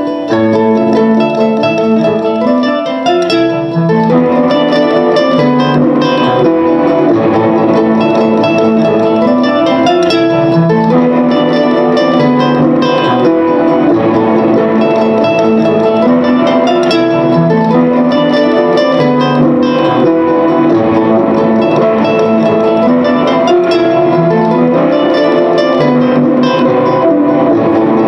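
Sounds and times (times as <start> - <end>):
plucked string instrument music: 0.0 - 28.0.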